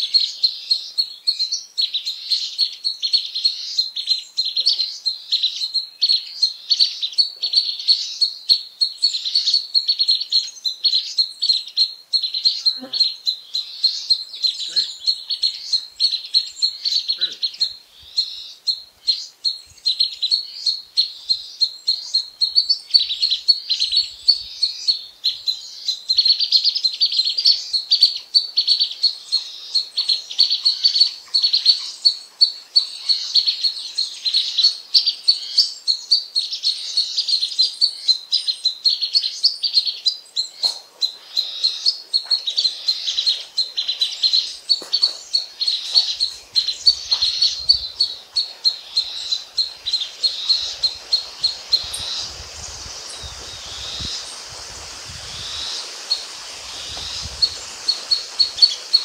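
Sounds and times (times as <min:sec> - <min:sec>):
songbirds chirping and singing: 0:00.1 - 0:59.0.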